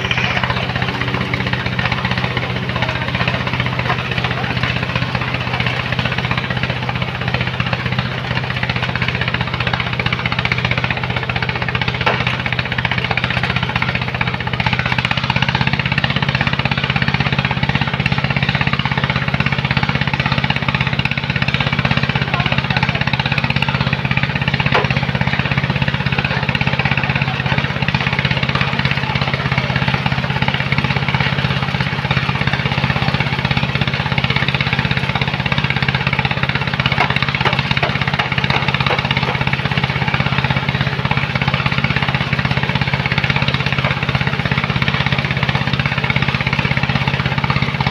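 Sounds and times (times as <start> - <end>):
heavy machine engine running: 0.0 - 47.9.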